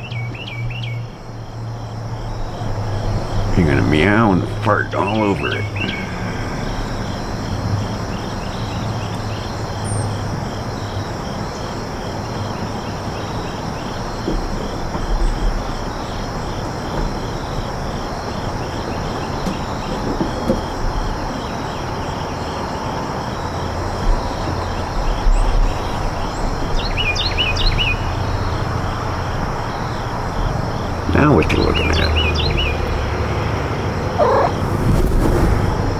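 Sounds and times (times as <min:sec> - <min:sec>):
crickets trilling: 0:00.0 - 0:35.9
rushing background noise: 0:00.0 - 0:35.9.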